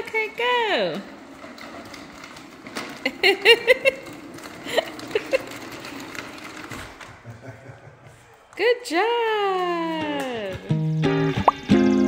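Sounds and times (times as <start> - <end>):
toy car wheels rolling on floor: 0.0 - 10.7.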